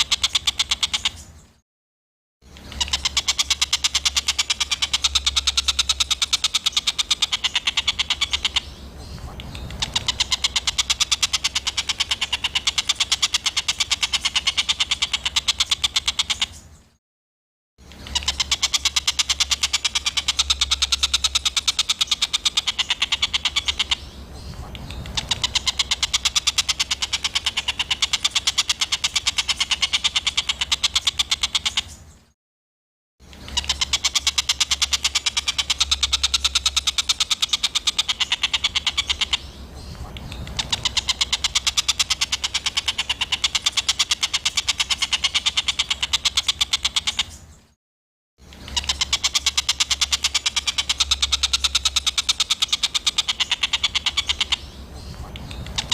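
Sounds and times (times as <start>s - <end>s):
songbird rapid chattering call: 0.0s - 1.6s, 2.5s - 16.9s, 17.8s - 32.3s, 33.2s - 47.8s, 48.4s - 55.9s.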